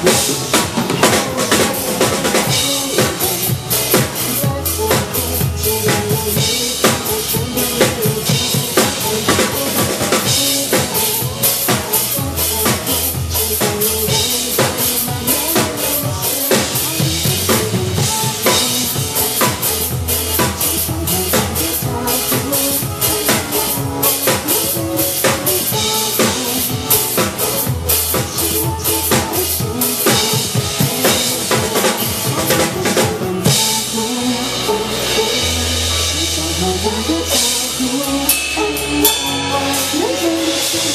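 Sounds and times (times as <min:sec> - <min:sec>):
backing music track: 0:00.0 - 0:40.9
drum kit played fast: 0:00.0 - 0:40.9.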